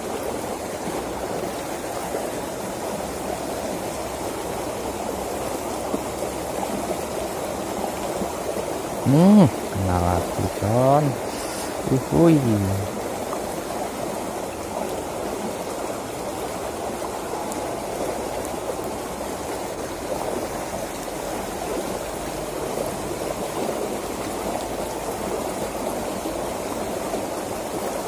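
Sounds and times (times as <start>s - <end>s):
water rushing down a ditch: 0.0s - 28.0s.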